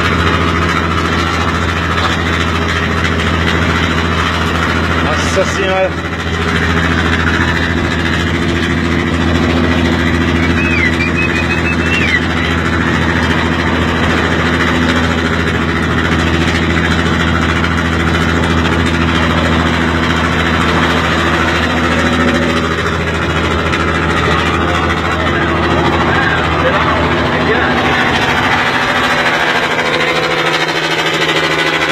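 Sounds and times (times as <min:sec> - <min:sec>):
engine running deep rumble: 0:00.0 - 0:31.9.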